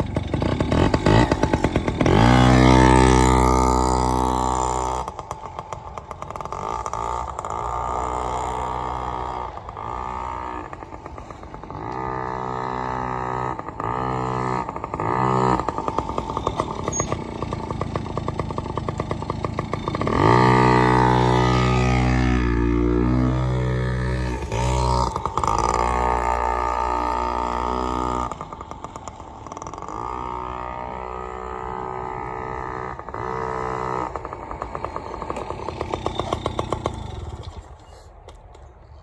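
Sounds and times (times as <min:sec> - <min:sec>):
two-stroke engine running: 0:00.0 - 0:37.8.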